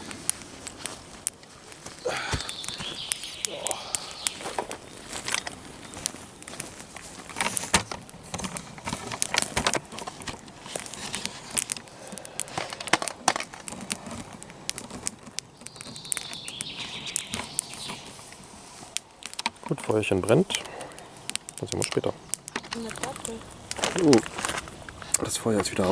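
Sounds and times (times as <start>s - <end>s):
campfire crackling and popping: 0.0s - 25.9s.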